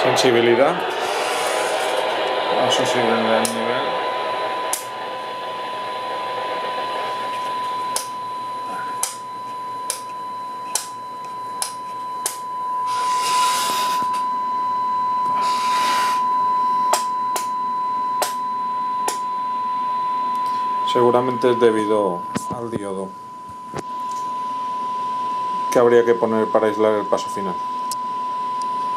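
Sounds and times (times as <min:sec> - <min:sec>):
steady test tone: 0:00.0 - 0:28.9.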